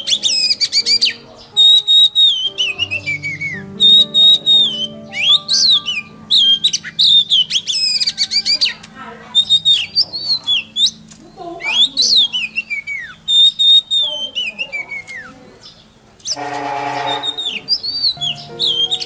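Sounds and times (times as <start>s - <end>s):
soft music backing: 0.0s - 13.0s, 15.1s - 19.0s
songbird whistling song: 0.0s - 19.0s.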